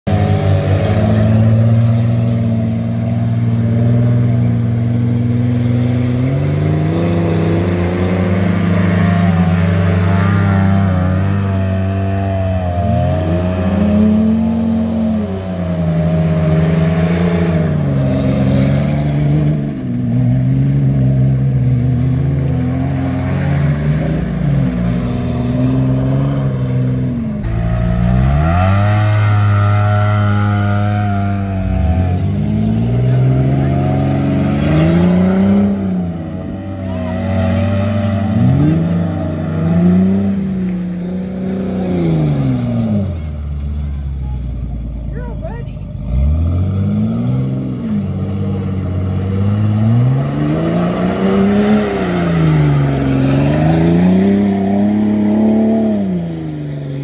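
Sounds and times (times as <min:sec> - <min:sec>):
engines revving in mud: 0:00.0 - 0:57.0.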